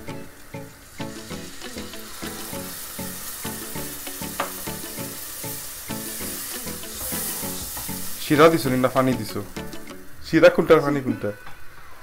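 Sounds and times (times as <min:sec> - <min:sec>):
plucked melody music: 0:00.0 - 0:11.2
food sizzling in a pan: 0:00.0 - 0:12.0.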